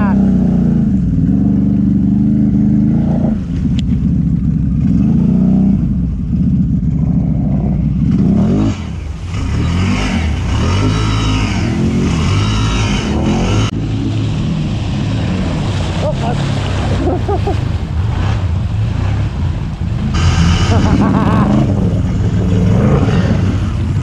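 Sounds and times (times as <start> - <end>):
engine revving: 0.0 - 24.0
water splashing: 0.0 - 24.0.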